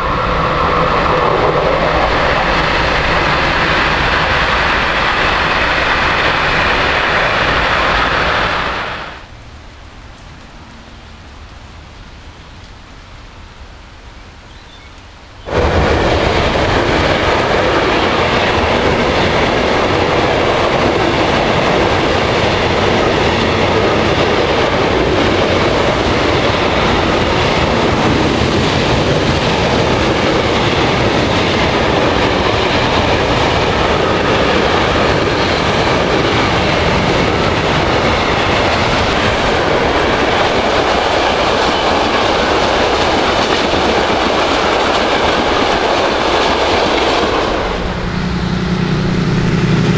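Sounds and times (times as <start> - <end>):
train rolling on rails: 0.0 - 49.9.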